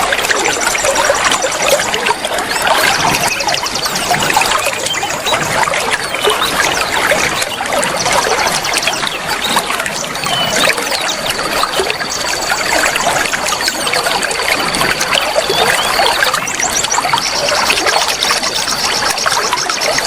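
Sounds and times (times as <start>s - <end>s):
water trickling and gurgling: 0.0s - 20.0s.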